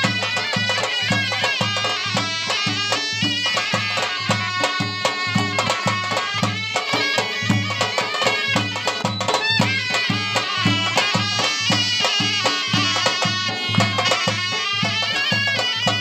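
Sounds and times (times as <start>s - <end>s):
reedy wind instrument melody: 0.0s - 16.0s
steady drum beat: 0.0s - 16.0s.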